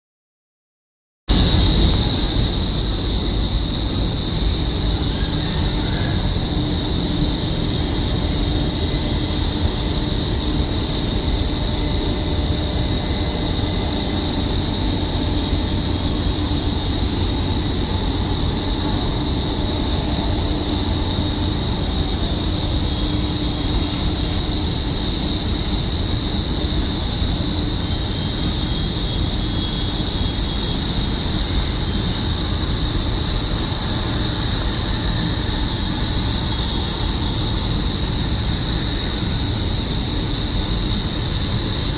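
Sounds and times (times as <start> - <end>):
jet engines running at low power: 1.3 - 41.9.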